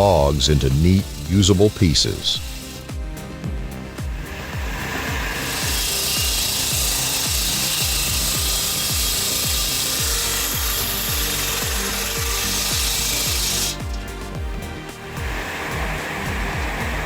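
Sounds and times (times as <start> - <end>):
music with thumping beat: 0.0 - 17.0
power saw cutting wood: 0.0 - 17.0.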